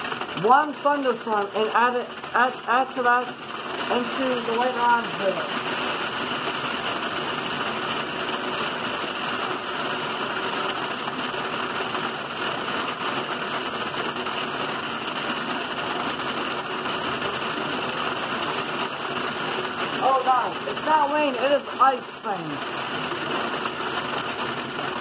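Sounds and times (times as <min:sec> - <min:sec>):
heavy rain and hail falling: 0:00.0 - 0:25.0.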